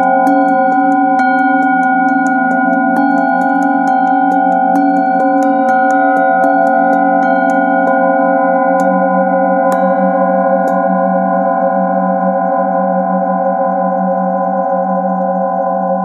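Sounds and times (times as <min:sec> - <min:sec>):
singing bowl ringing hum: 0:00.0 - 0:16.0.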